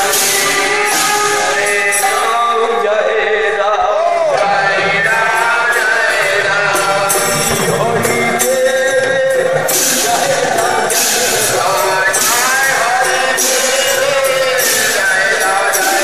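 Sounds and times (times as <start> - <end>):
metal hand cymbals striking: 0.0 - 2.6, 5.3 - 16.0
voices singing chanted melody: 0.0 - 16.0.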